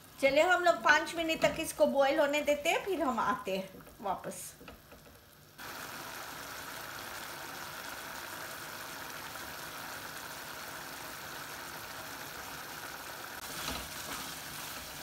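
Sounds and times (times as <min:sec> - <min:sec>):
peas bubbling at a boil: 0:01.7 - 0:15.0.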